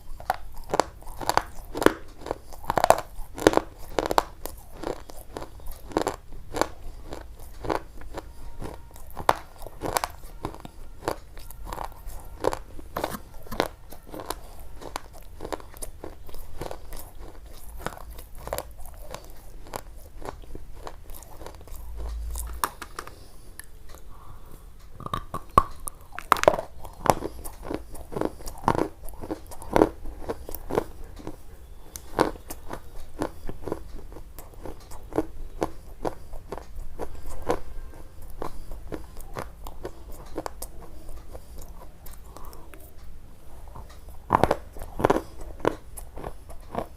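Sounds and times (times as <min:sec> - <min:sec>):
crunchy food being chewed: 0:00.0 - 0:46.9.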